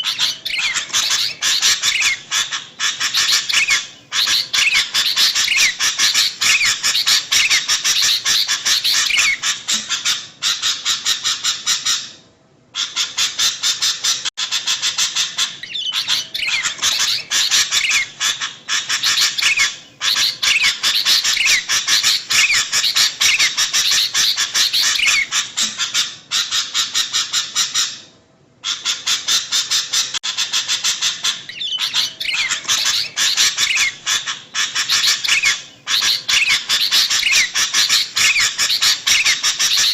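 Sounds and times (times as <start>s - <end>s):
birds chattering: 0.0s - 12.2s, 12.8s - 28.0s, 28.6s - 39.9s.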